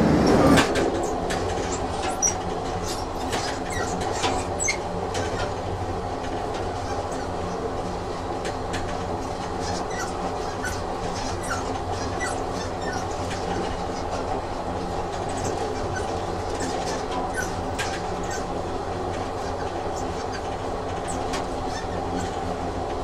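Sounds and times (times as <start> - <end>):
train running on rails: 0.0 - 23.0
faint wheel squeaks: 0.3 - 5.7, 6.4 - 7.9, 8.8 - 22.6.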